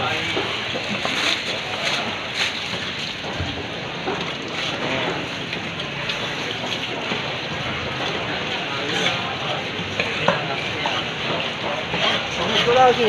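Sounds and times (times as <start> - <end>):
water hissing and splashing: 0.0 - 13.0.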